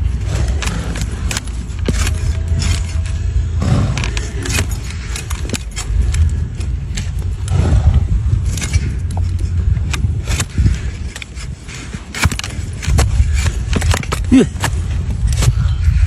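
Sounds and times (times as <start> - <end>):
hoof trimming scrapes and clicks: 0.0 - 15.6
steady low rumble: 0.0 - 16.0.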